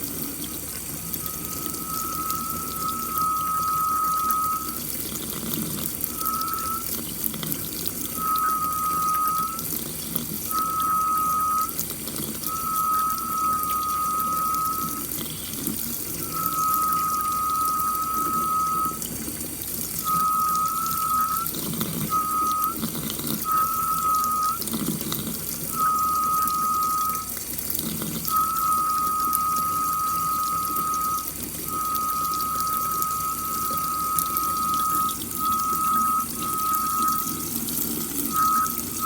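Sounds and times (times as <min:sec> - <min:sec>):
tap water splashing: 0:00.0 - 0:39.0
high whistle-like tone: 0:00.3 - 0:05.1, 0:06.0 - 0:19.2, 0:19.8 - 0:27.4, 0:28.2 - 0:39.0.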